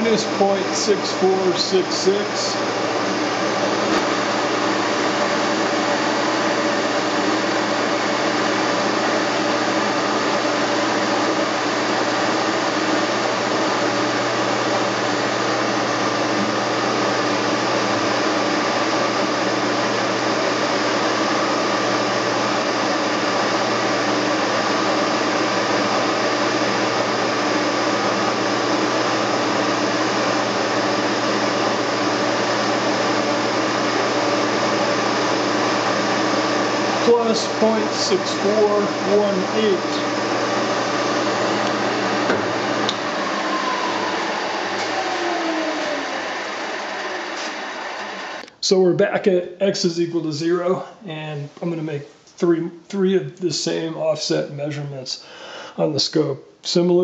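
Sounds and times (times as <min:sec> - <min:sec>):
machine whirring: 0:00.0 - 0:48.6.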